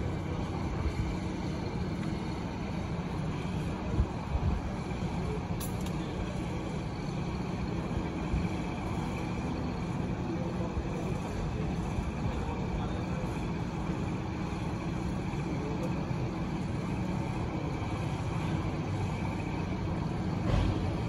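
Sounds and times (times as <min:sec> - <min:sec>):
low outdoor rumble and hiss: 0:00.0 - 0:21.0.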